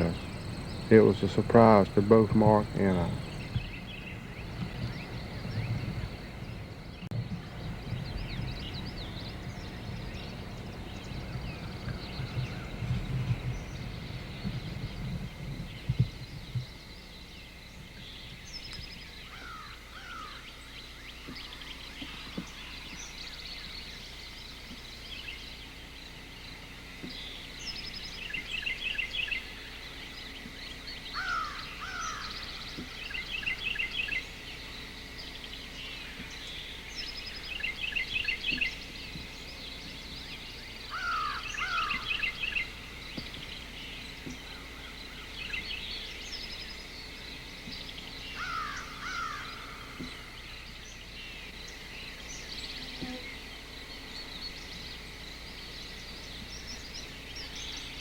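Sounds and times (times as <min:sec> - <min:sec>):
birds calling and singing: 0:00.0 - 0:58.0
low rustling rumble: 0:00.0 - 0:58.0.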